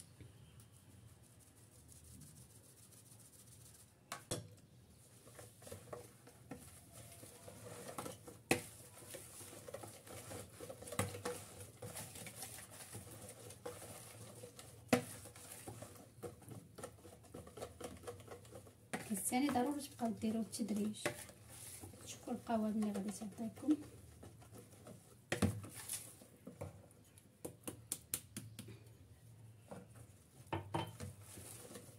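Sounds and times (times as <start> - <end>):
whisk stirring batter: 0.6 - 27.7, 29.7 - 31.9.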